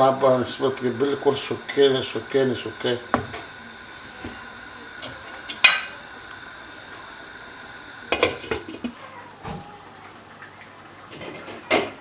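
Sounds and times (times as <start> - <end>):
pan simmering with faint hiss: 0.0 - 12.0.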